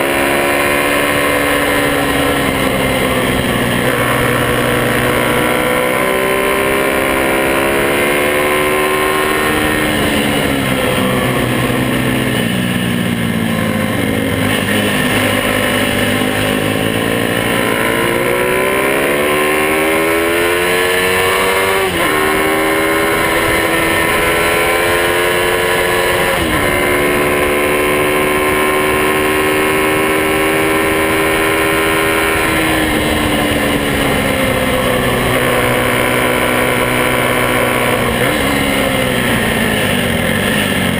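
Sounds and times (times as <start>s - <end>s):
small motorcycle engine: 0.0s - 40.9s.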